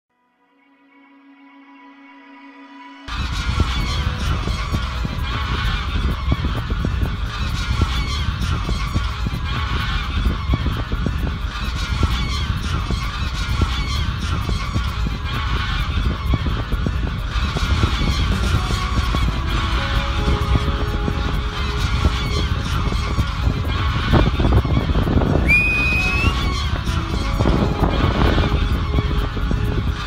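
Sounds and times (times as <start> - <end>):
geese honking: 3.0 - 30.0
low rumble: 3.1 - 30.0.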